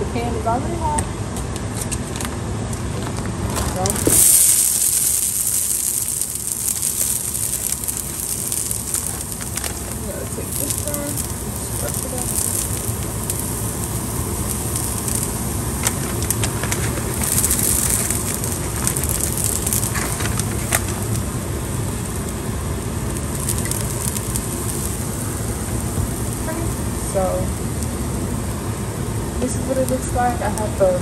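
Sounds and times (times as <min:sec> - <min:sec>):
meat crumbles sizzling in a pan: 0:03.2 - 0:30.9.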